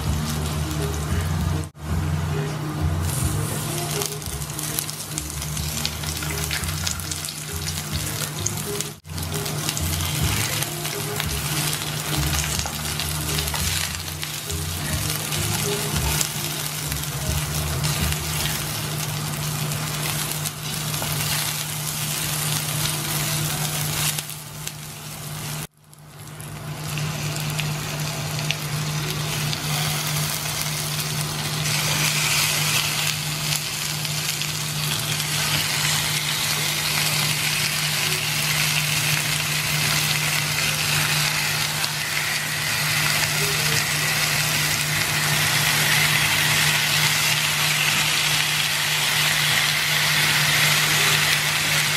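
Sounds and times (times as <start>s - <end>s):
onion and garlic sizzling in oil: 0.0s - 51.9s.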